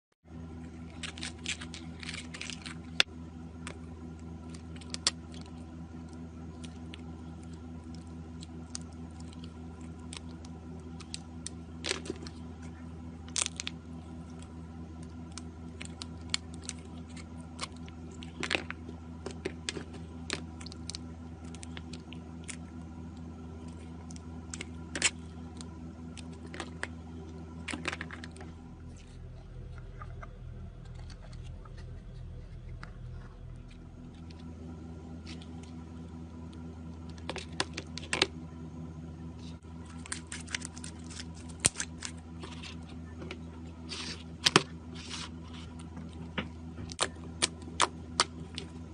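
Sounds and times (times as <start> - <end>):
low hum: 0.2 - 48.9.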